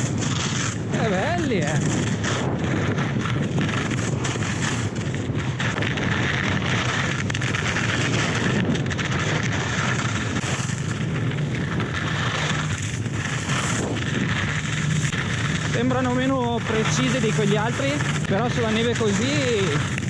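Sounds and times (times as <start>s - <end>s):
skis scraping over slushy snow: 0.0s - 20.0s
wind buffeting microphone: 0.0s - 20.0s.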